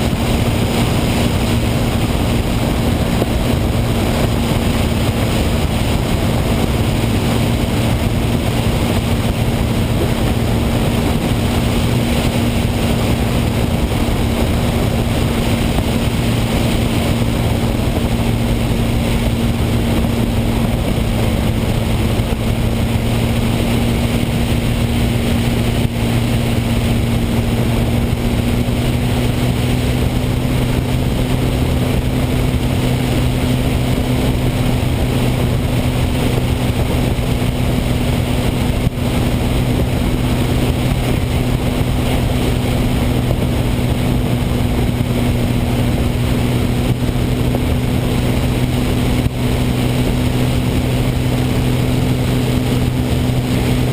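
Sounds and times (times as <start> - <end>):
engine droning steadily: 0.0 - 53.9.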